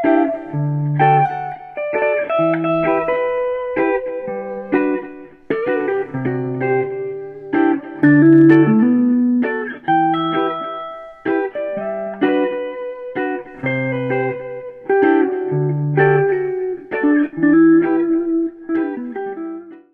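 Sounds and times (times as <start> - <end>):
plucked guitar tune: 0.0 - 19.9.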